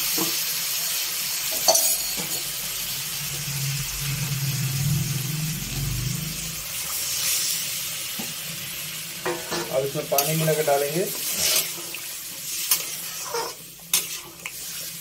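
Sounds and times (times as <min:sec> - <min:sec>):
curry sizzling in a pan: 0:00.0 - 0:15.0.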